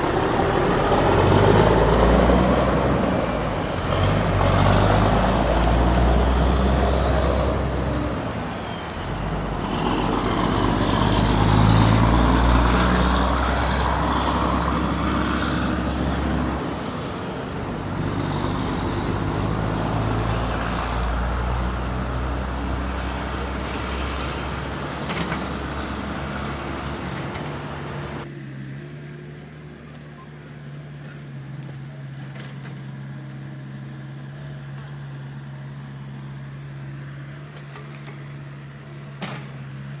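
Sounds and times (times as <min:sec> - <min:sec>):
heavy machinery diesel engine: 0:00.0 - 0:40.0.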